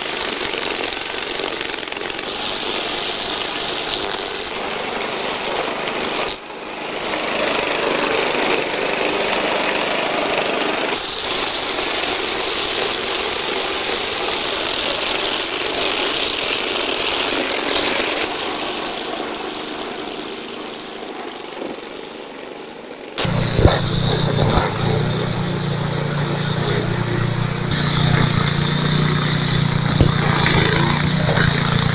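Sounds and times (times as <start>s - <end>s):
string trimmer engine running: 0.0s - 31.9s
trimmer line cutting weeds: 0.0s - 31.9s.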